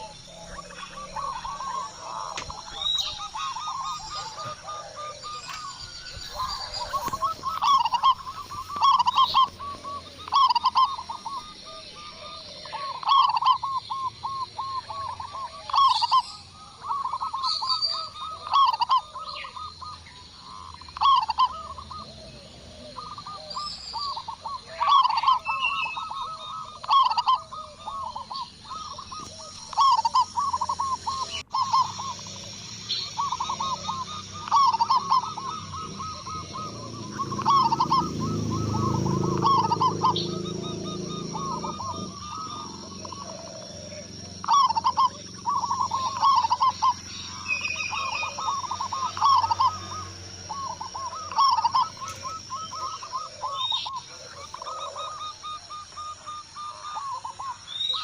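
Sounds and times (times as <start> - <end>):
doves cooing: 0.0 - 58.0
faint high chirps: 0.0 - 58.0.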